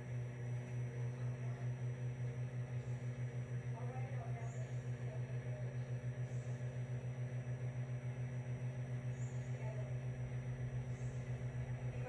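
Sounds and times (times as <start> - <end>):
pulsing electrical hum: 0.0 - 12.0.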